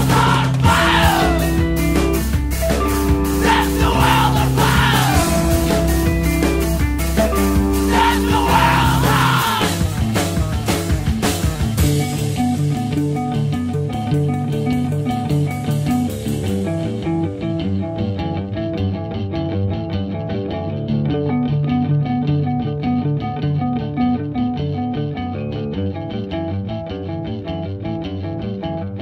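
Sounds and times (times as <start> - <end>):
electric guitar and bass riff: 0.0 - 29.0.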